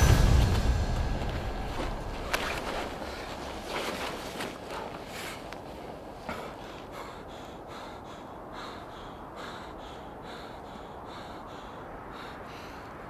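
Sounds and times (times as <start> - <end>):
man breathing heavily: 1.7 - 13.0.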